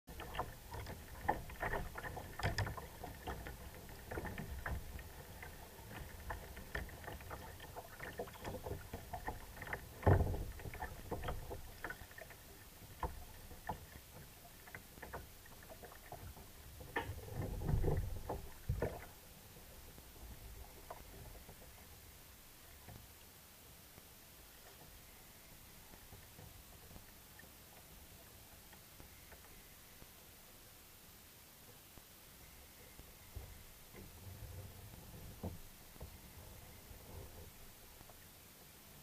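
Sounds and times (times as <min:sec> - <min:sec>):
water lapping against kayak hull: 0:00.1 - 0:30.0, 0:32.4 - 0:39.0.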